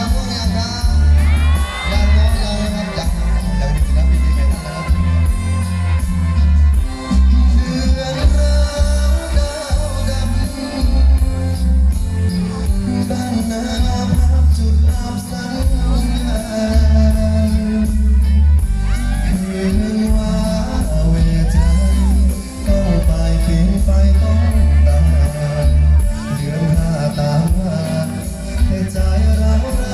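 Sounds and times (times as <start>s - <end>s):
heavy pulsing bass beat: 0.0s - 29.9s
live band music: 0.0s - 29.9s
person singing: 0.0s - 29.9s.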